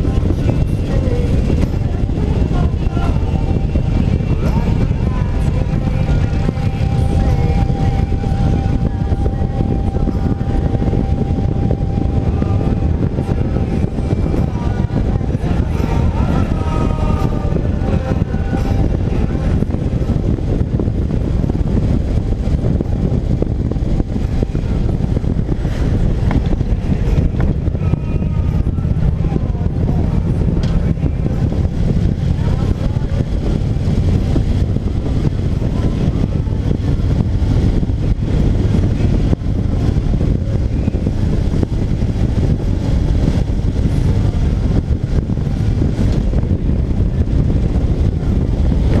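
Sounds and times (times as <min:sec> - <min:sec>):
motorcycle engine running: 0:00.0 - 0:49.0
wind rushing on microphone: 0:00.0 - 0:49.0.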